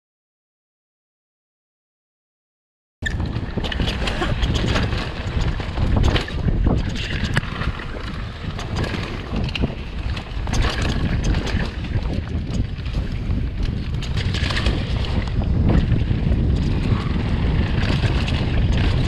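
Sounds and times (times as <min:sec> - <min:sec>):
knocks and rattles: 0:03.0 - 0:19.0
steady low rumble: 0:03.0 - 0:19.0
wind buffeting microphone: 0:03.0 - 0:19.0.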